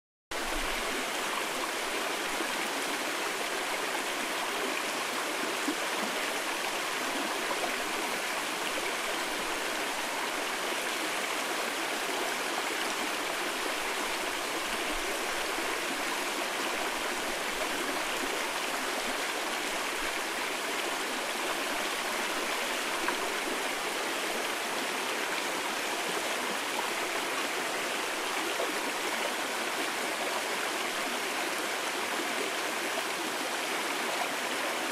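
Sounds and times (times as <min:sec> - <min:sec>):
stream rushing over rocks: 0:00.3 - 0:34.9.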